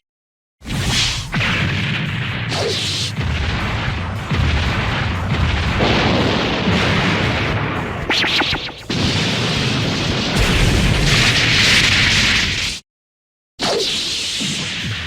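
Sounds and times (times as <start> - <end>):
explosion-like rumble with crackle: 0.7 - 12.8.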